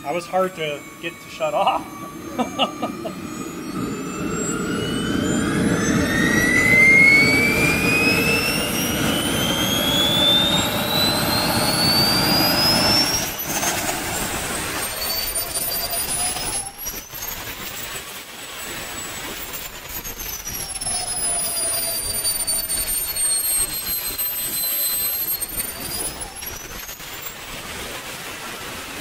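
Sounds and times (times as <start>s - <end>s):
jet turbine rushing exhaust: 0.0s - 29.0s
turbine whine rising in pitch: 0.0s - 29.0s.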